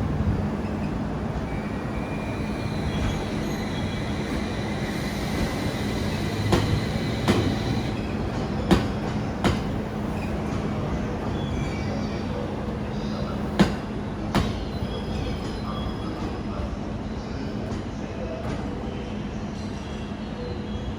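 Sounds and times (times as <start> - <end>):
train rumbling: 0.0 - 20.3.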